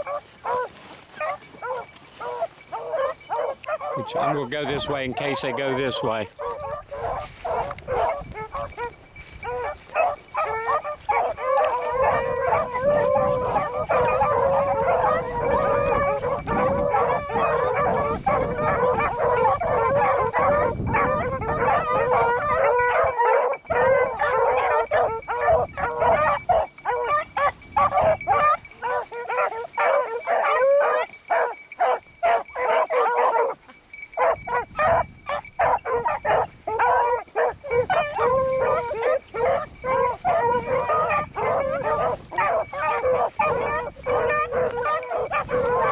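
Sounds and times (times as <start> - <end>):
dogs barking: 0.0 - 45.9
dogs baying: 0.0 - 45.9.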